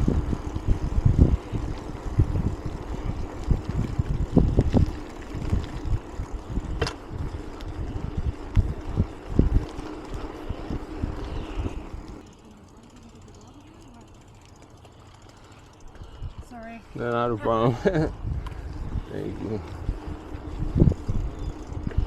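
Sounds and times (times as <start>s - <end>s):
wind buffeting microphone: 0.0s - 12.3s, 15.7s - 22.0s
bike thumping and rattling: 0.0s - 16.6s, 19.6s - 22.0s.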